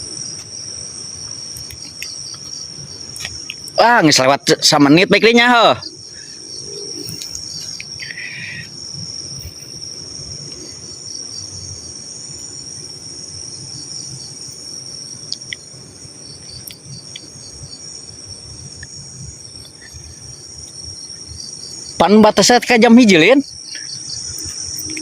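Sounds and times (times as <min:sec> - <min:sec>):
crickets trilling: 0:00.0 - 0:25.0
pulsing insect chirp: 0:00.0 - 0:25.0.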